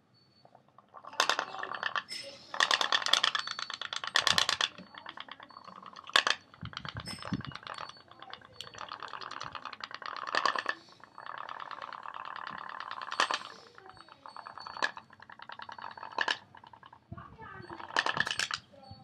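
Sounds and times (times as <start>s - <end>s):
toy steam boat engine popping: 0.8s - 19.0s.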